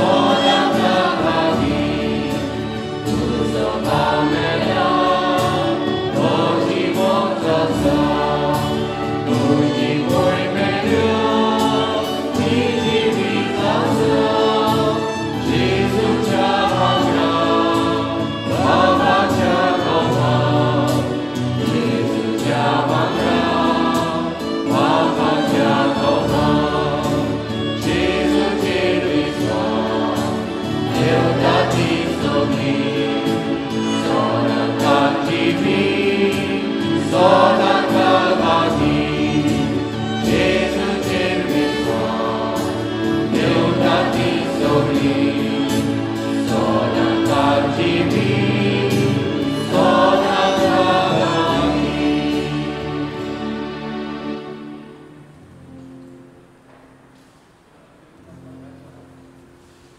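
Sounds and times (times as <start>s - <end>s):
choir singing a hymn: 0.0s - 55.7s
keyboard: 0.0s - 57.3s
violin: 0.0s - 59.9s.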